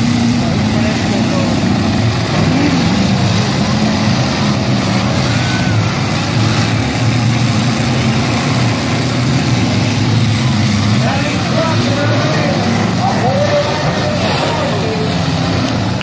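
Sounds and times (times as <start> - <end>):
truck engines droning: 0.0 - 16.0.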